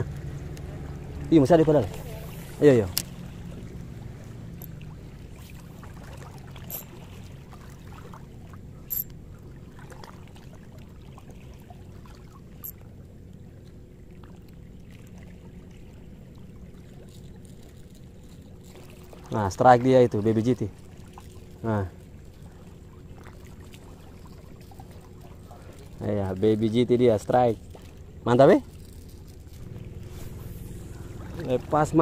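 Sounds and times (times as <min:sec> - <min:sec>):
distant motor hum: 0:00.0 - 0:19.2, 0:20.2 - 0:32.0
water lapping over rocks: 0:00.0 - 0:26.6.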